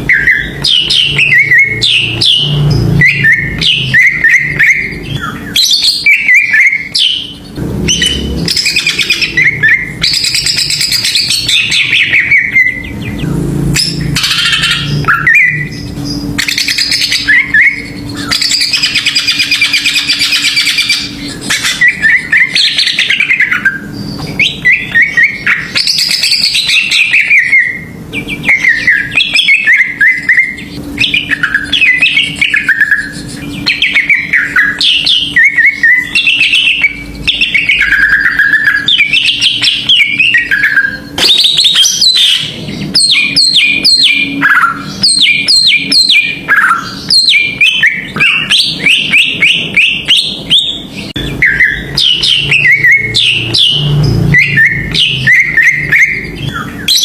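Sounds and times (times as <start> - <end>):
songbird singing fast varied song: 0.0 - 41.0, 41.6 - 57.0.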